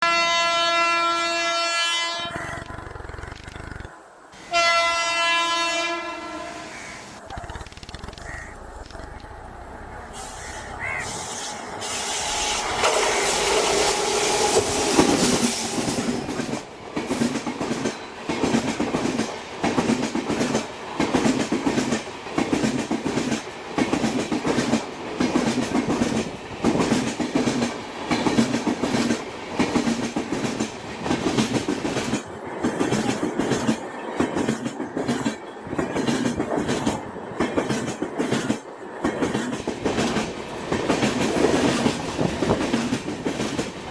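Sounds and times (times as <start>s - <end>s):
train passing at speed: 4.0s - 7.2s, 8.7s - 43.9s.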